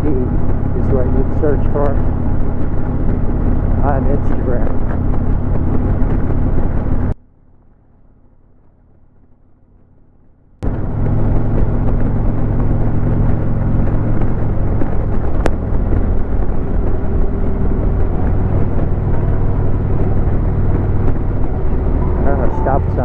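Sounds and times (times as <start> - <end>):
motorcycle engine running: 0.0 - 7.2, 10.6 - 23.0
road and wind noise: 0.0 - 23.0.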